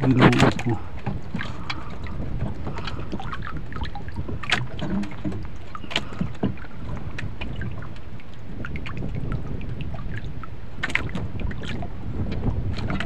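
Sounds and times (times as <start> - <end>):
small water splashes: 0.0 - 13.0
water lapping against canoe hull: 0.0 - 13.0
wind buffeting microphone: 0.0 - 13.0.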